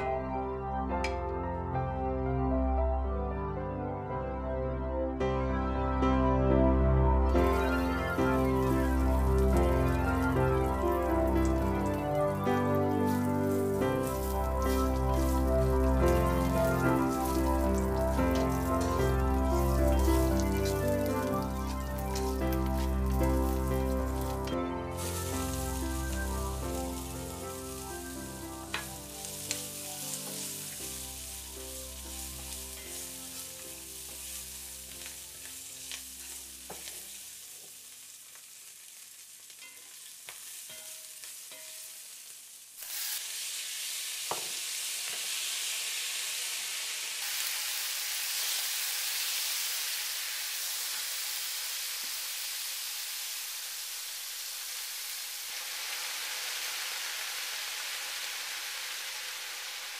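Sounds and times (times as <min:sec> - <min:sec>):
food sizzling in hot oil: 0:07.4 - 0:59.9.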